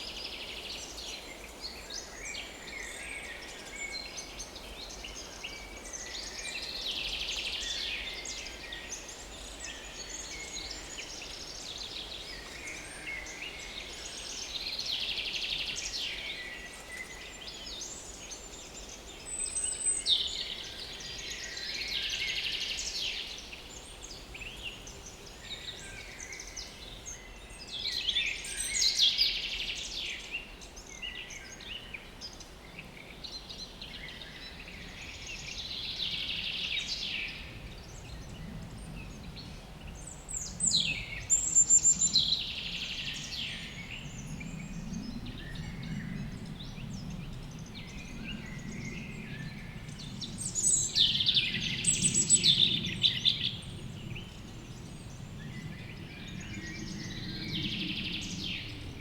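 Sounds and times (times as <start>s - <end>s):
songbirds singing and trilling: 0.0s - 59.0s
steady outdoor hiss: 0.0s - 59.0s.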